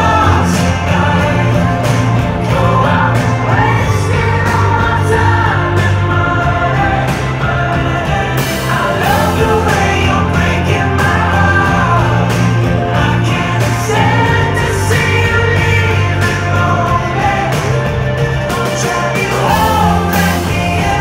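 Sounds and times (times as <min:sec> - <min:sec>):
live pop-rock band: 0:00.0 - 0:21.0
man singing: 0:00.0 - 0:21.0.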